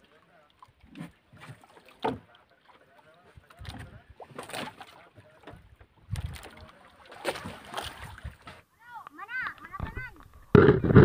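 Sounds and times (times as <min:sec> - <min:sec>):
water splashing against boat hull: 0:00.0 - 0:08.6, 0:09.4 - 0:11.0.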